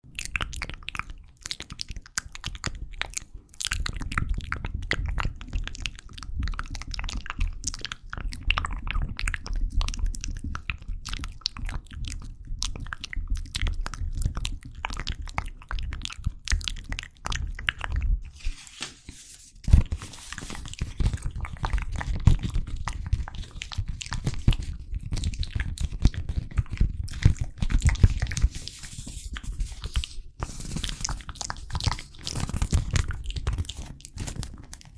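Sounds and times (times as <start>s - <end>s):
mouth clicks and smacks: 0.1s - 18.4s, 19.7s - 34.9s.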